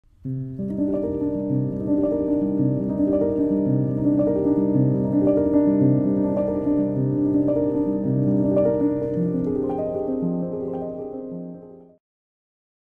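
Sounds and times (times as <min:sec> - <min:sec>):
instrumental music with held chords: 0:00.1 - 0:12.0.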